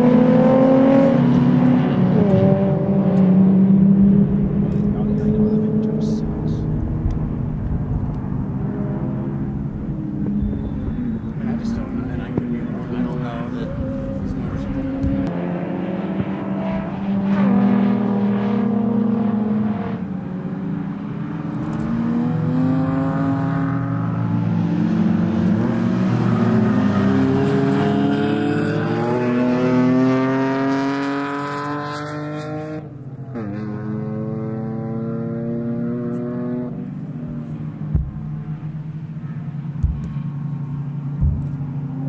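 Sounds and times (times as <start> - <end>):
car engine at full throttle: 0.0 - 42.0.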